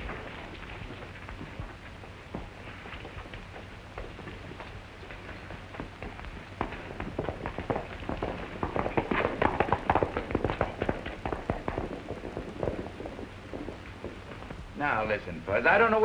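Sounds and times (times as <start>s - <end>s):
horses hoofbeats clattering: 0.0s - 16.0s.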